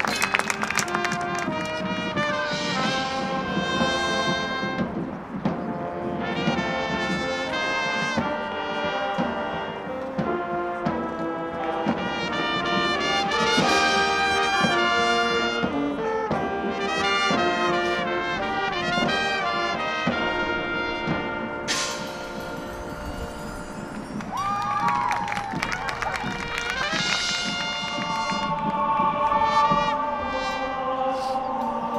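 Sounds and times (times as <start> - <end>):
marching band playing: 0.0 - 31.9.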